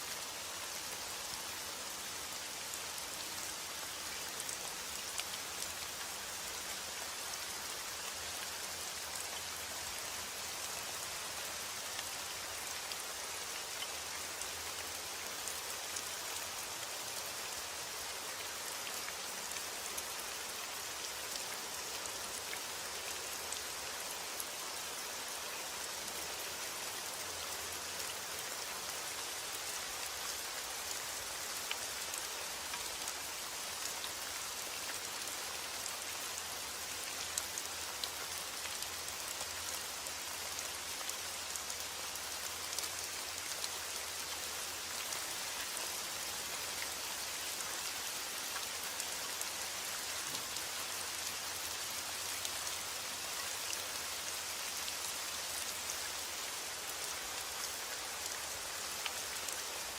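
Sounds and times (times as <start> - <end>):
rain drops ticking on a surface: 0.0 - 59.9.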